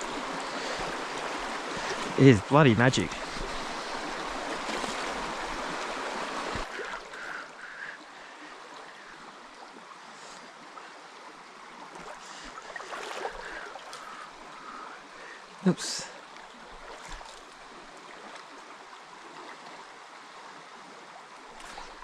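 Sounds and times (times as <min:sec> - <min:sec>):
river water running over stream bed: 0:00.0 - 0:22.0.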